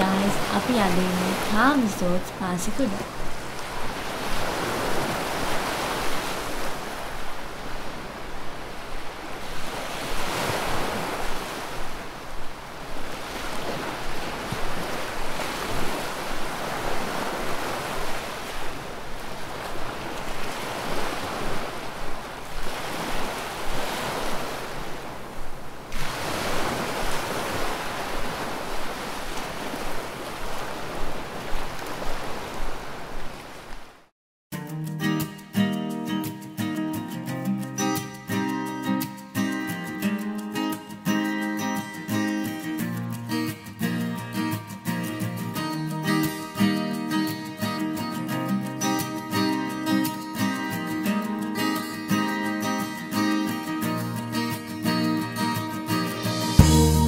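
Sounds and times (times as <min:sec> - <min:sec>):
ocean waves washing in: 0:00.0 - 0:34.1, 0:38.1 - 0:57.0.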